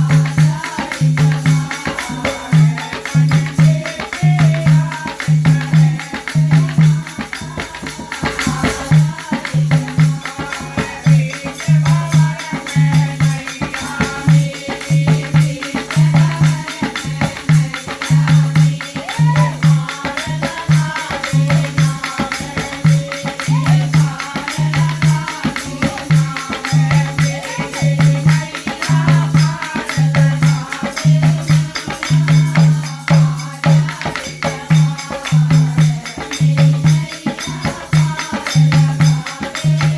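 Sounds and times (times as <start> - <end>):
jingling percussion: 0.0 - 39.9.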